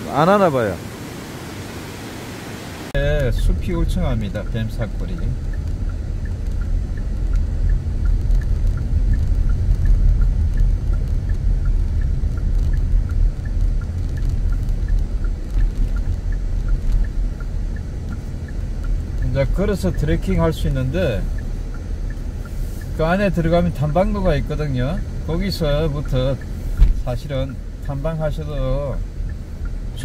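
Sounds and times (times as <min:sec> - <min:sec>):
low rumble: 0:03.0 - 0:30.0.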